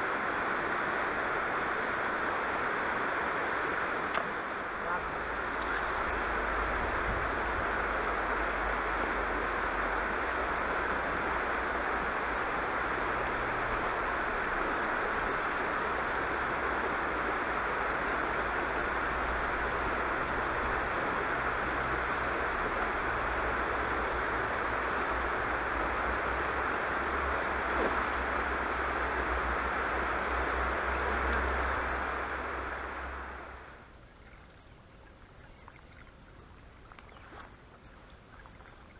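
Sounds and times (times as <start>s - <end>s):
river water rushing over rocks: 0.0s - 34.4s.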